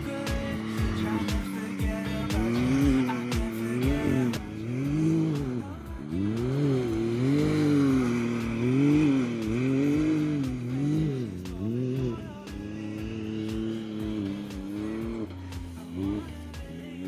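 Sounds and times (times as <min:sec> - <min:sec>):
buggy engine revving: 0:00.0 - 0:17.0
music with steady beat: 0:00.0 - 0:17.0.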